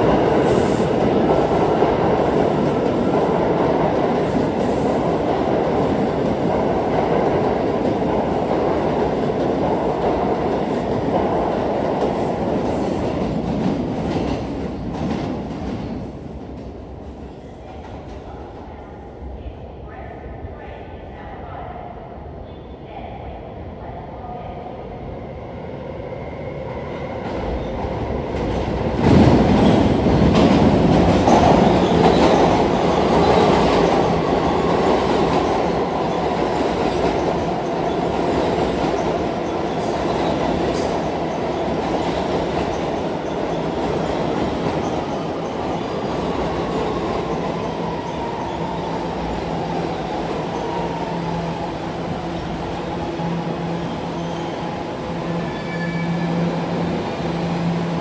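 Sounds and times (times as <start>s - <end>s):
subway train rumble: 0.0s - 58.0s.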